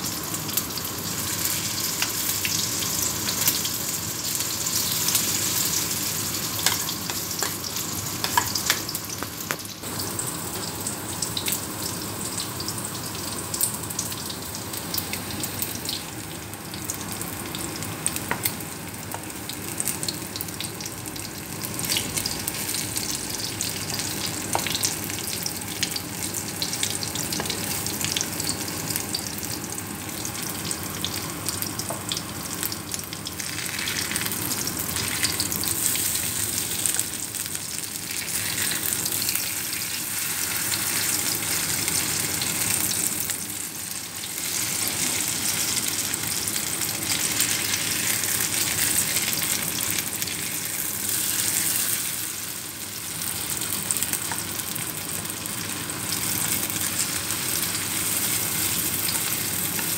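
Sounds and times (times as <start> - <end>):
patties sizzling in hot oil: 0.0 - 59.9.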